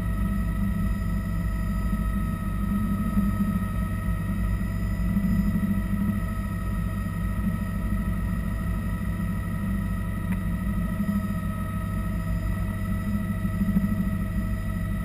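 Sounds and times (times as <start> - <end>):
helicopter rotor rumble: 0.0 - 15.0
turbine whine: 0.0 - 15.0.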